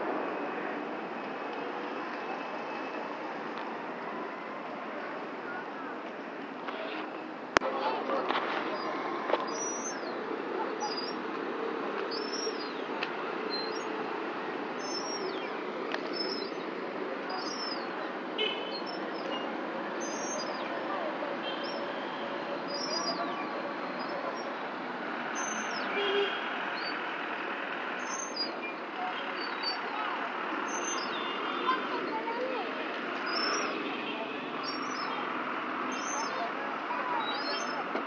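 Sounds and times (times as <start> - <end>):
street traffic hum: 0.0 - 38.0.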